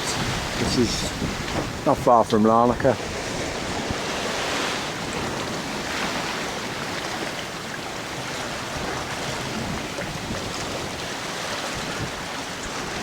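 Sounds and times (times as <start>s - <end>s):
water rushing along boat hull: 0.0s - 13.0s.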